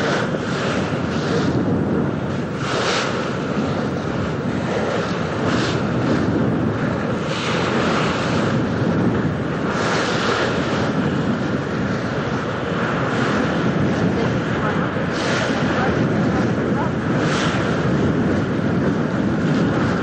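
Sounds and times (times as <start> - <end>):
low rumble: 0.0 - 20.0
rushing water: 0.0 - 20.0
wind buffeting microphone: 0.0 - 20.0.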